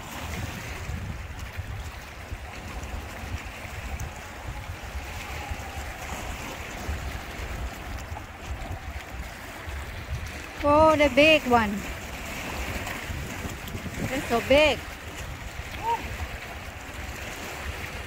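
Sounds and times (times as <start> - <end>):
small waves lapping against rocks: 0.0 - 18.0
wind rumbling on microphone: 0.0 - 18.0.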